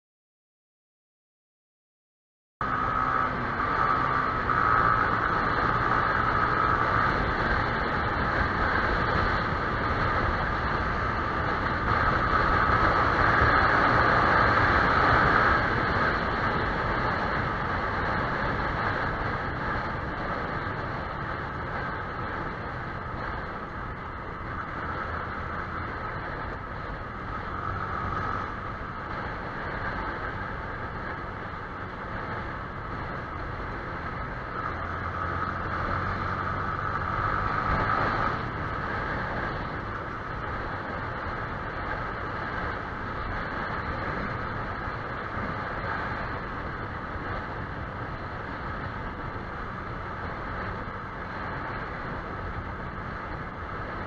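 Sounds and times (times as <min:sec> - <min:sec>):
motorcycle engine hum: 0:02.6 - 0:54.0
wind and road rush: 0:02.6 - 0:54.0.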